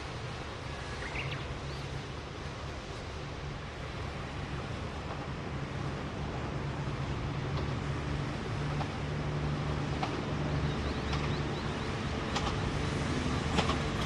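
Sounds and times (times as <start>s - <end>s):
surf washing: 0.0s - 14.0s
wind: 0.0s - 14.0s.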